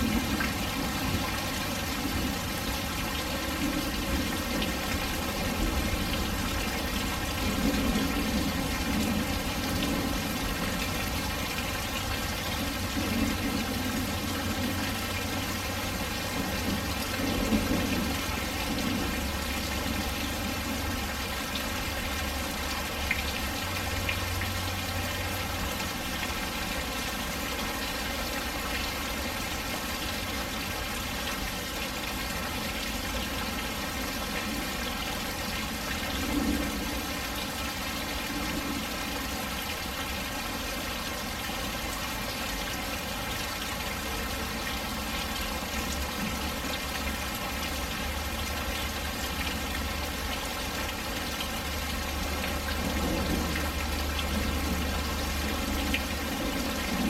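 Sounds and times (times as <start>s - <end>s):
rain falling and splashing: 0.0s - 57.0s.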